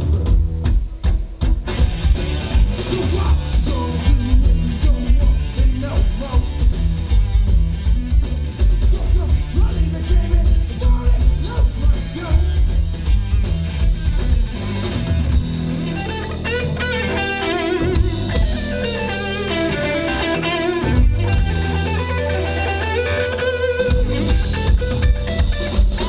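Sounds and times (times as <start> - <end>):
bass guitar: 0.0 - 26.0
drums: 0.0 - 26.0
electric guitar lead with vibrato: 1.8 - 26.0.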